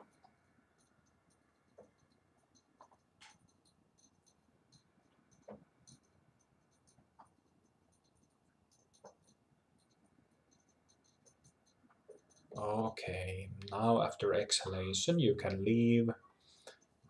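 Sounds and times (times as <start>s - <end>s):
faint small clicks and ticks: 0.0s - 13.0s, 15.1s - 17.0s.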